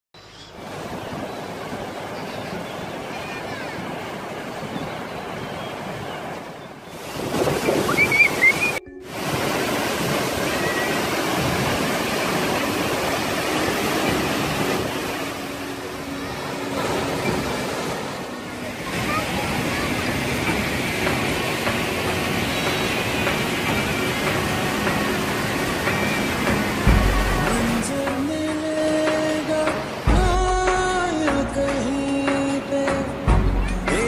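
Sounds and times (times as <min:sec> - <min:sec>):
waterfall rushing: 0:00.4 - 0:34.0.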